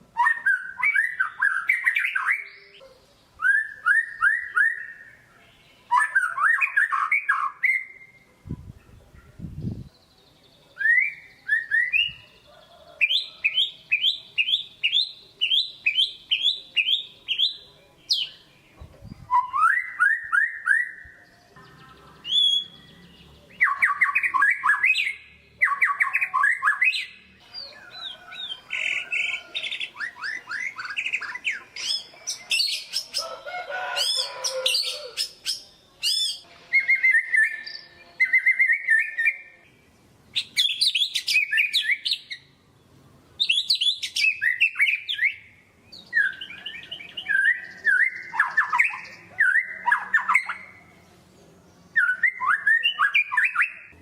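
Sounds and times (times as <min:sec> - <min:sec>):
shama bird singing whistled notes: 0:00.1 - 0:02.8, 0:03.4 - 0:08.2, 0:10.8 - 0:12.5, 0:13.1 - 0:33.2, 0:34.1 - 0:39.6, 0:40.4 - 0:42.5, 0:43.4 - 0:50.8, 0:51.9 - 0:53.9.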